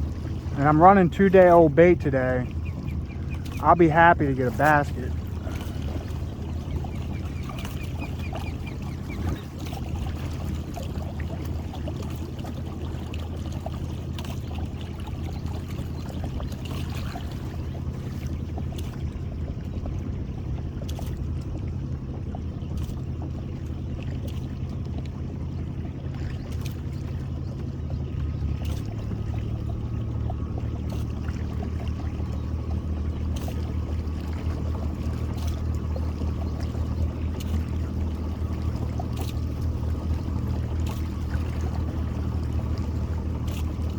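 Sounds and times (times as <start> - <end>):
boat motor humming: 0.0 - 43.9.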